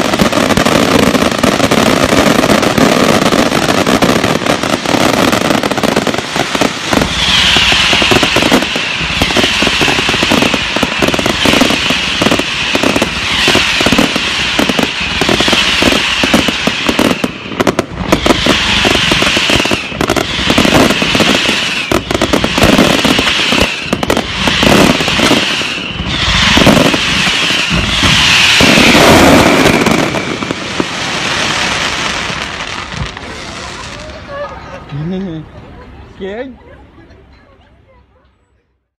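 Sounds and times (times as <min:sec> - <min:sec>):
fireworks hiss: 0:00.0 - 0:34.8
fireworks crackling and popping: 0:00.0 - 0:36.2.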